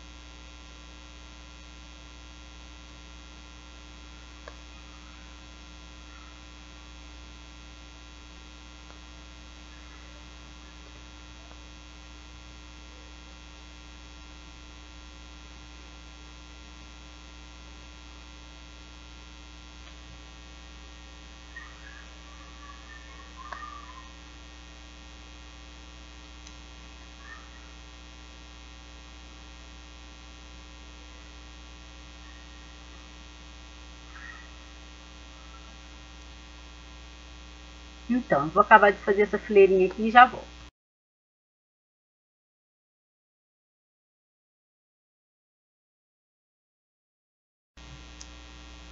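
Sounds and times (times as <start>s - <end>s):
electrical mains hum: 0.0s - 40.7s, 47.8s - 48.9s.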